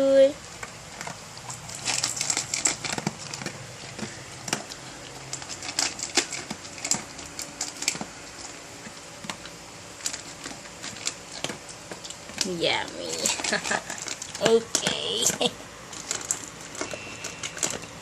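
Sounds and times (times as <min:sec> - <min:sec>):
dog crunching food: 0:00.4 - 0:18.0.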